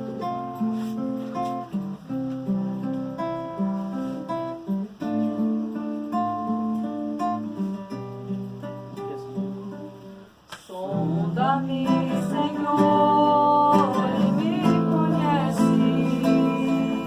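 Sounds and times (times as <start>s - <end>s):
acoustic guitar playing chords: 0.0s - 17.0s.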